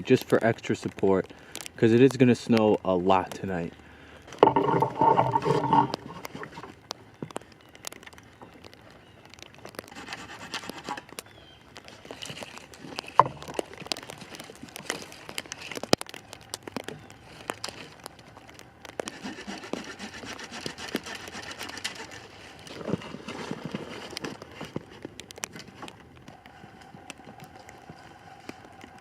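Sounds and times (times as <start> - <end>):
sticks snapping and knocking: 4.3 - 29.0.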